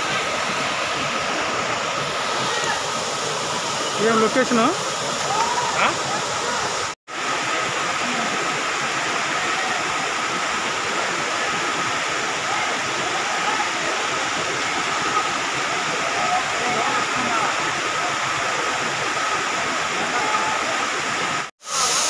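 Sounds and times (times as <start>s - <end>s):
waterfall rushing over rocks: 0.0s - 22.0s.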